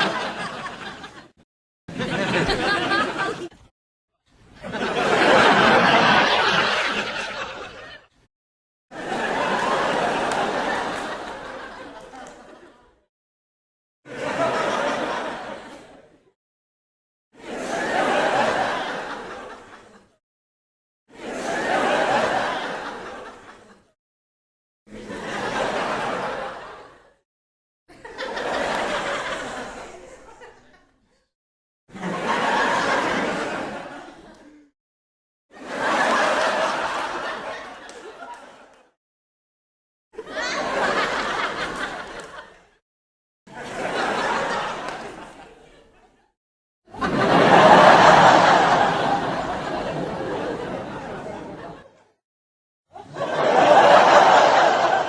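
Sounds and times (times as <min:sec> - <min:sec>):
audience laughing: 0:00.0 - 0:03.7, 0:04.6 - 0:08.3, 0:09.0 - 0:13.0, 0:14.1 - 0:16.3, 0:17.4 - 0:20.2, 0:21.1 - 0:24.0, 0:24.9 - 0:27.2, 0:27.9 - 0:31.3, 0:31.9 - 0:34.7, 0:35.6 - 0:39.0, 0:40.2 - 0:42.8, 0:43.5 - 0:52.2, 0:52.9 - 0:55.0.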